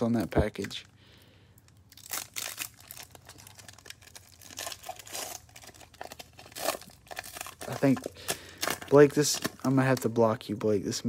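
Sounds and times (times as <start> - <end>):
foil wrapper crinkling: 0.0 - 0.9, 1.6 - 10.8.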